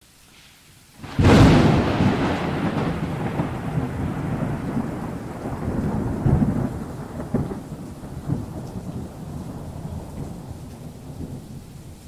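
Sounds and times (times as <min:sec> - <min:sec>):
steady rain: 0:00.0 - 0:12.0
thunder rumbling: 0:01.0 - 0:12.0.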